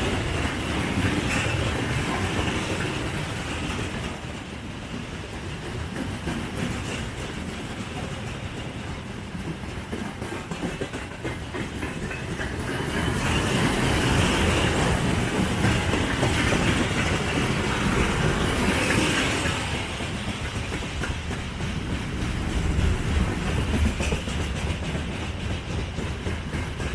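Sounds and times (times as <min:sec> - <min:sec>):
wheels clacking over rail joints: 0:00.0 - 0:26.9.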